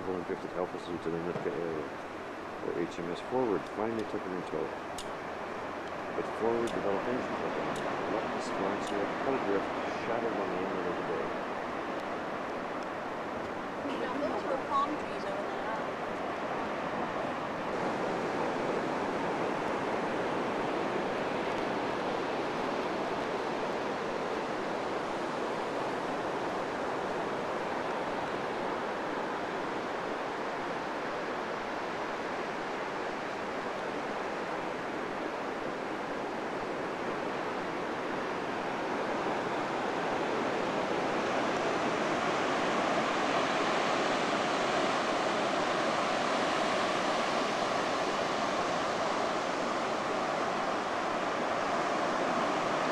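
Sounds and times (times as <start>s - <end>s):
ocean surf breaking on beach: 0.0s - 52.9s.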